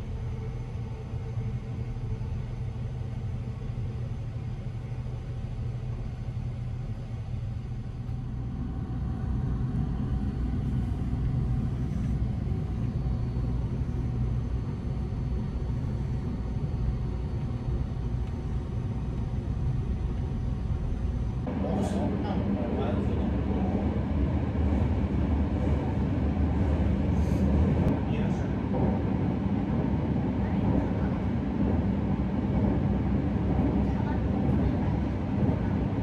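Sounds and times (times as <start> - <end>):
train running low rumble: 0.0 - 36.0.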